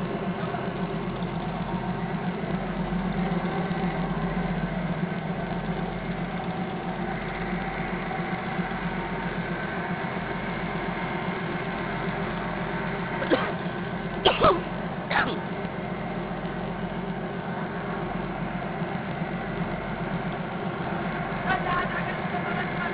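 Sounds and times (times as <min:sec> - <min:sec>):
boat engine running steadily: 0:00.0 - 0:22.9.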